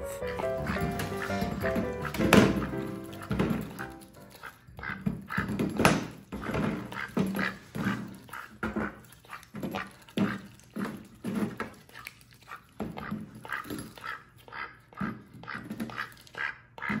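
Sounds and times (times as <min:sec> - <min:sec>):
duck quacking: 0:00.0 - 0:05.5, 0:06.4 - 0:11.0, 0:12.5 - 0:17.0.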